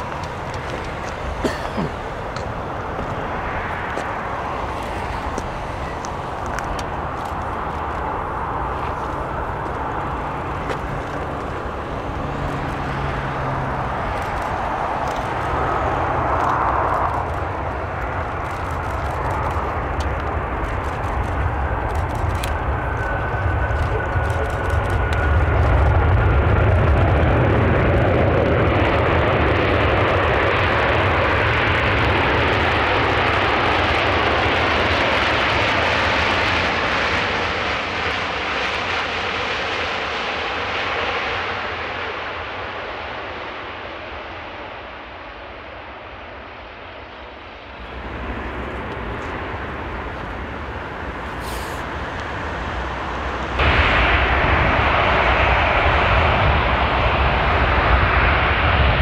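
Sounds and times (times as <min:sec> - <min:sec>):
jet engines landing: 0:00.0 - 0:59.0.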